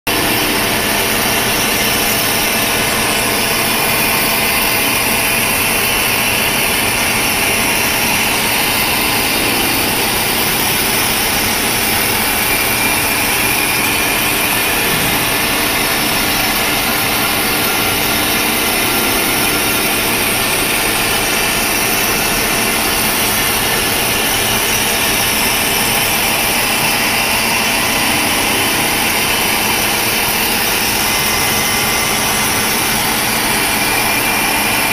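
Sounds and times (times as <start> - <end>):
milling machine cutting steel: 0.1 - 34.9.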